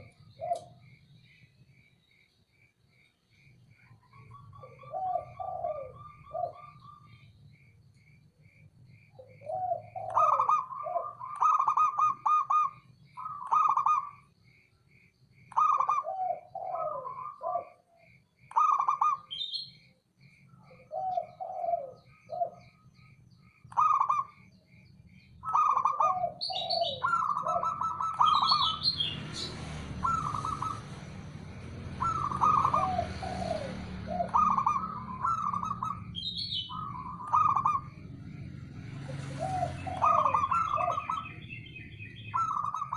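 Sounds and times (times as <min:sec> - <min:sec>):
dove cooing: 0:00.0 - 0:01.0, 0:03.8 - 0:07.3, 0:09.2 - 0:14.3, 0:15.5 - 0:19.6, 0:20.5 - 0:24.5, 0:25.4 - 0:42.9
high chirping: 0:00.0 - 0:42.9.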